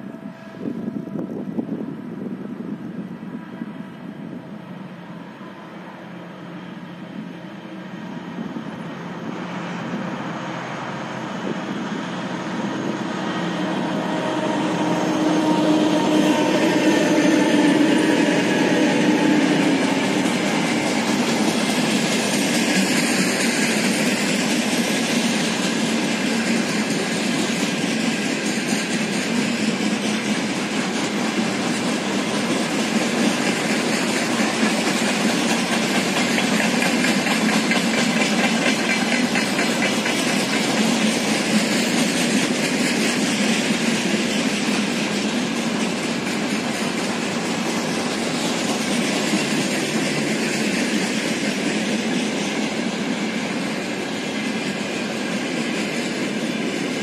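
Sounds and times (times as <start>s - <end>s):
steel train wheels on rails: 0.0s - 57.0s.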